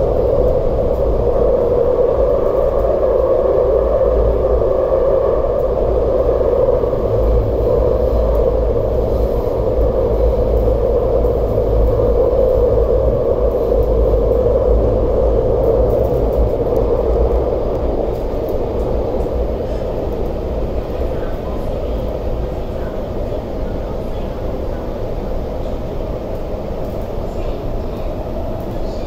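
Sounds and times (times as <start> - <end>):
train running through tunnel: 0.0 - 29.0.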